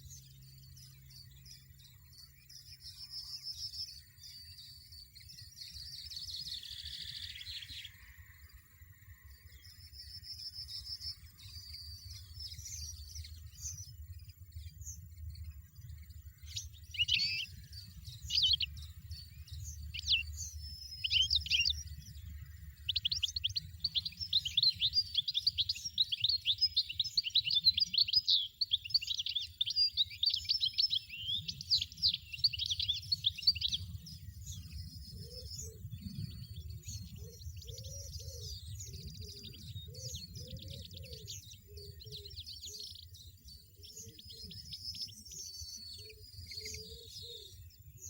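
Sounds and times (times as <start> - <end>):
goldfinch calls and twittering song: 0.0 - 48.0.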